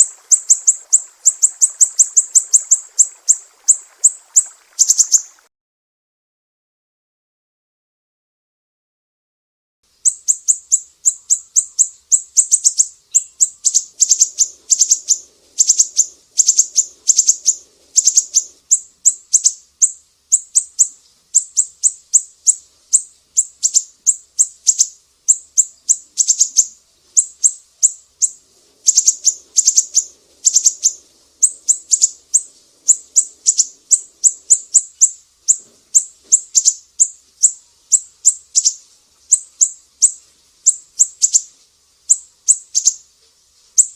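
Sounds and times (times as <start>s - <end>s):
bird singing high sharp chirps: 0.0s - 5.4s, 10.0s - 41.5s, 42.1s - 43.0s.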